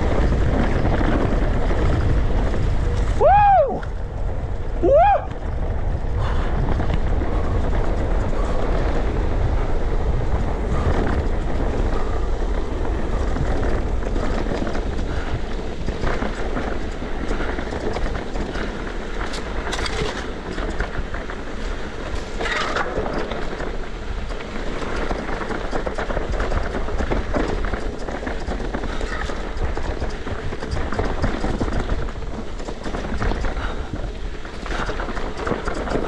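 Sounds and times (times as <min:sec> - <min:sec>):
bike clicks and rattles: 0:00.0 - 0:36.0
tyres rumbling on dirt: 0:00.0 - 0:36.0
wind buffeting microphone: 0:00.0 - 0:36.0.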